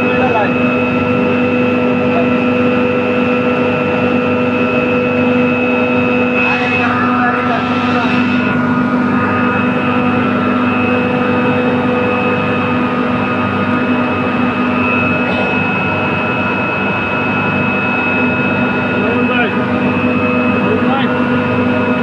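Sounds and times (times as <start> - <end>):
machine running loudly: 0.0 - 22.0.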